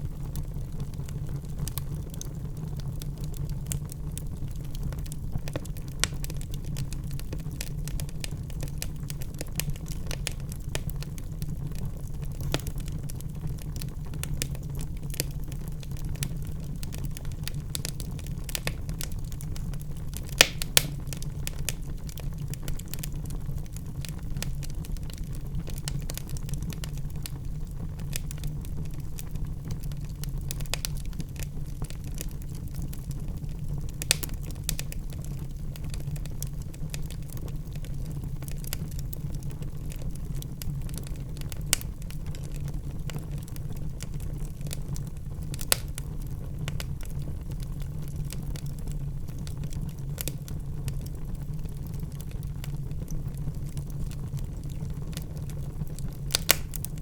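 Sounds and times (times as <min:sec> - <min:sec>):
wood fire crackling: 0:00.0 - 0:57.0
sharp pops from fire: 0:00.2 - 0:11.6, 0:12.2 - 0:27.4, 0:28.0 - 0:29.3, 0:30.0 - 0:37.4, 0:40.6 - 0:43.5, 0:45.5 - 0:47.2, 0:48.1 - 0:57.0.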